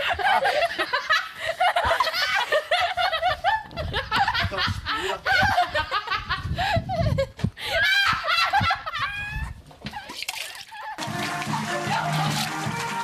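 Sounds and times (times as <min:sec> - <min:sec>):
people laughing and giggling: 0:00.0 - 0:09.5, 0:10.7 - 0:13.0.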